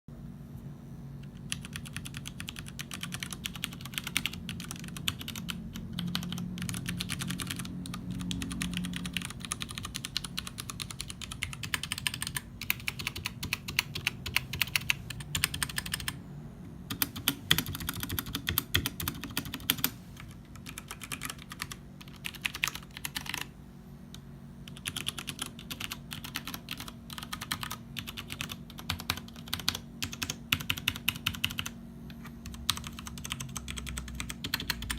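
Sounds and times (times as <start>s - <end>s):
mechanical keyboard typing: 1.2s - 16.2s, 16.9s - 23.5s, 24.6s - 31.8s, 32.4s - 34.9s.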